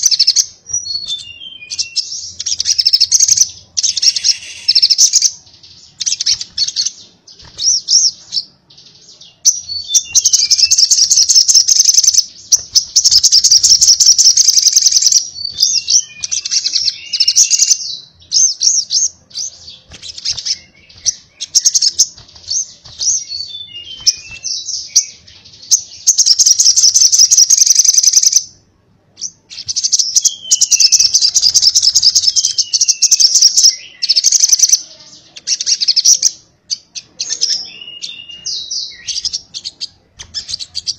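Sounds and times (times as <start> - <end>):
bird singing rapid chattering song: 0.0 - 28.6, 29.2 - 40.9.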